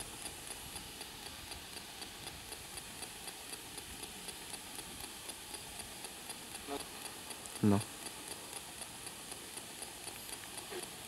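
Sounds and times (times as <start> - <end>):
faint even ticking: 0.0 - 11.0
low steady hiss: 0.0 - 11.0.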